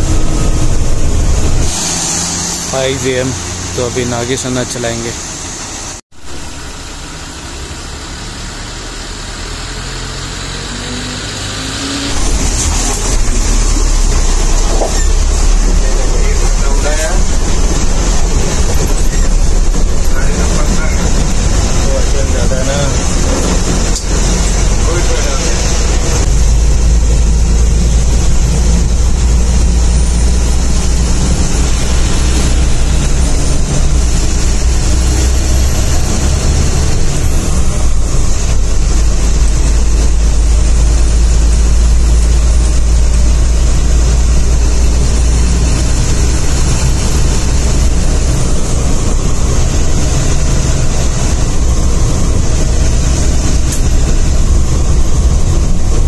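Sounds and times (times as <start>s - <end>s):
bus engine droning: 0.0s - 56.0s
road noise: 0.0s - 56.0s.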